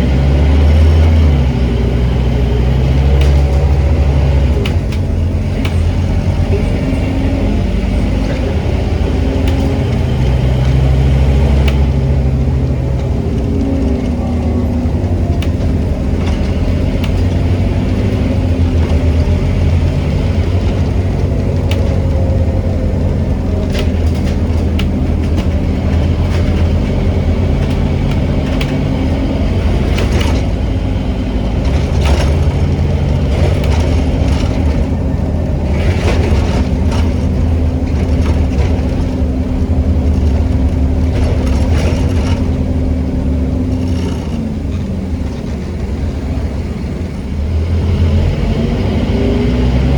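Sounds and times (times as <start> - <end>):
bus body clicks and rattles: 0.0 - 49.9
bus diesel engine running: 0.0 - 49.9.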